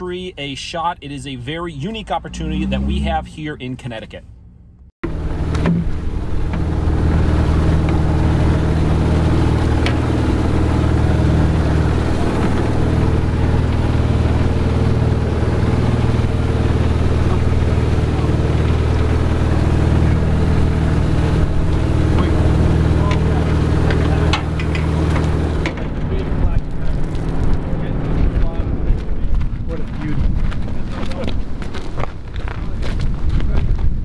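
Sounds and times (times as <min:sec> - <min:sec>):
engine idling: 0:00.0 - 0:32.3.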